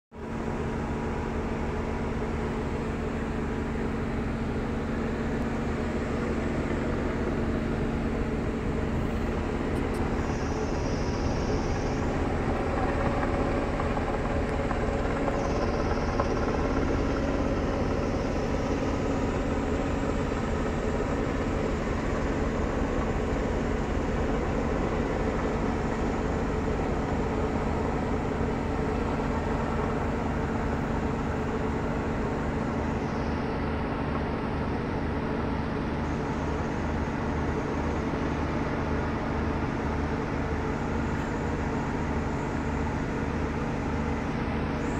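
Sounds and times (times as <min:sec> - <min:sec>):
ship engines droning: 0:00.2 - 0:44.9.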